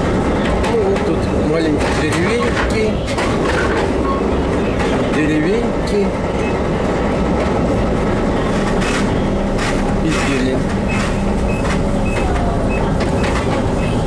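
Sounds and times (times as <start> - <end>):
railcar clacks and rattles: 0.0 - 14.0
train wheels running on track: 0.0 - 14.0.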